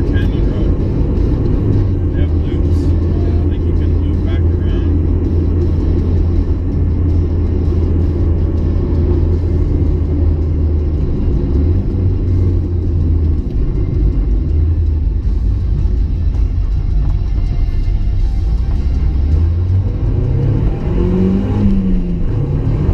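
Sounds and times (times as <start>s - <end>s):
car engine running: 0.0s - 22.9s.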